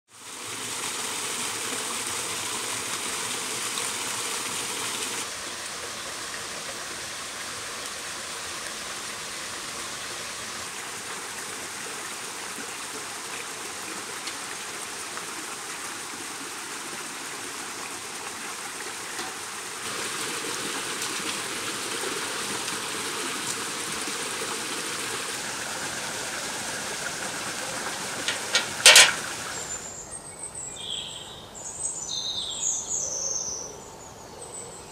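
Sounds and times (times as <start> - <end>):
stream and small waterfall rushing: 0.1 - 29.9.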